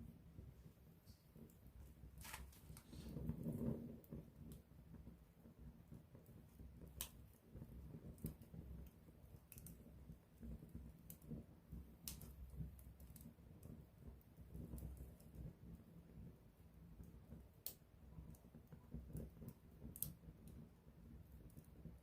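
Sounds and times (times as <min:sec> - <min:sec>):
campfire crackling: 0:00.0 - 0:22.0
fire pops: 0:01.0 - 0:15.8, 0:16.9 - 0:22.0.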